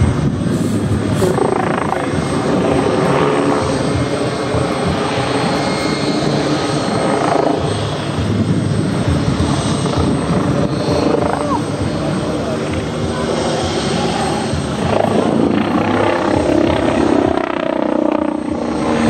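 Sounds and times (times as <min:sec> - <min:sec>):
helicopter rotor chop: 0:00.0 - 0:19.0
helicopter turbine engines: 0:00.0 - 0:19.0.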